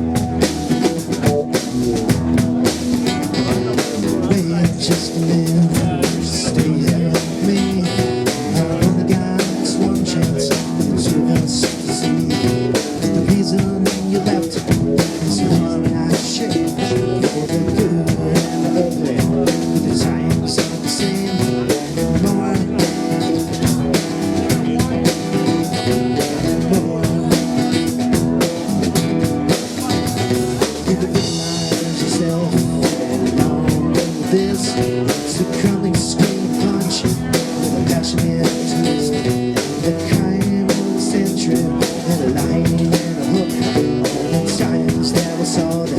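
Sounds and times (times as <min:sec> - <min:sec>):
drum kit: 0:00.0 - 0:45.9
guitar: 0:00.0 - 0:45.9
live band playing instrumental: 0:00.0 - 0:45.9.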